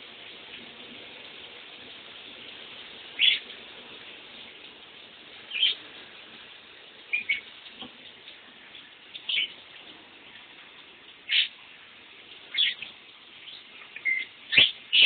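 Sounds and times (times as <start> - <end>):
running shower hiss: 0.0 - 15.0.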